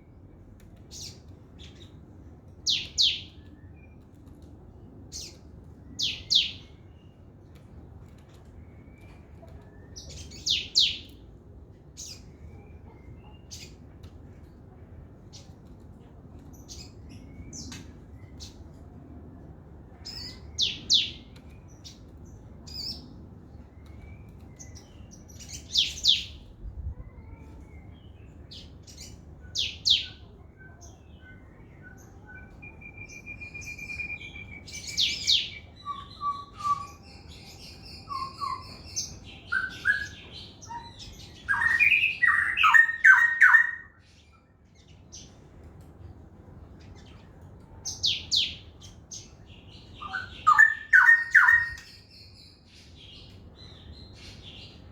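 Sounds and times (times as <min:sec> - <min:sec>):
songbird singing: 0:00.8 - 0:07.3, 0:08.2 - 0:13.9, 0:16.4 - 0:45.4, 0:46.6 - 0:54.9.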